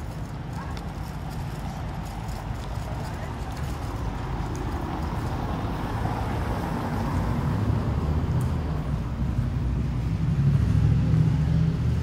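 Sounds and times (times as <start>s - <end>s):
car driving on cobblestones: 0.0s - 12.0s.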